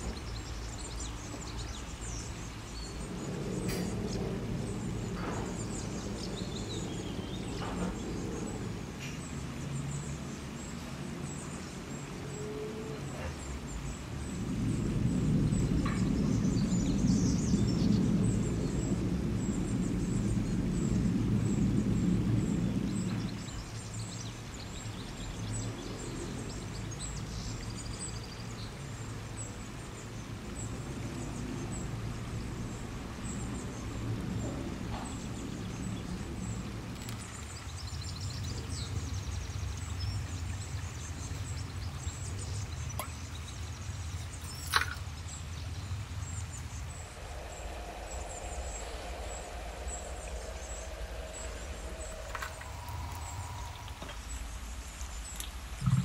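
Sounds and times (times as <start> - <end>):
low background rumble: 0.0 - 56.0.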